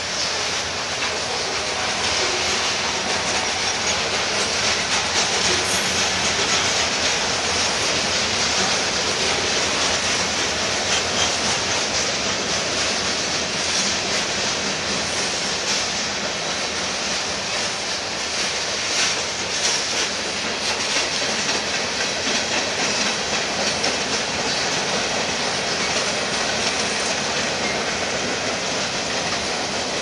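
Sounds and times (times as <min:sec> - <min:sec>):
steel train wheels on rails: 0:00.0 - 0:30.0.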